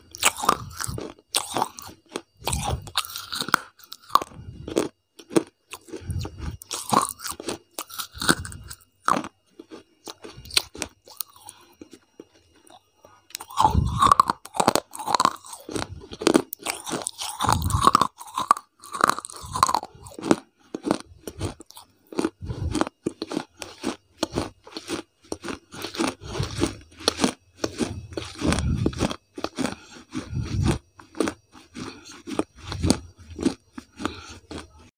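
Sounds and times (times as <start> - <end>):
crunching and chewing mouth sounds: 0.0 - 34.9.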